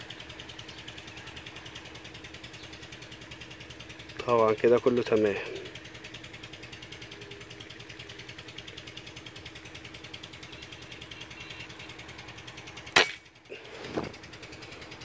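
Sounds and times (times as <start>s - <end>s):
fast-pulsing mechanical hum: 0.0s - 15.0s.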